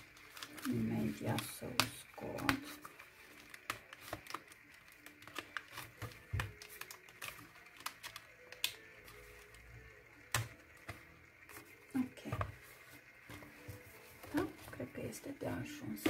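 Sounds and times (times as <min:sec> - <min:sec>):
card clicking and crackling: 0:00.0 - 0:15.1.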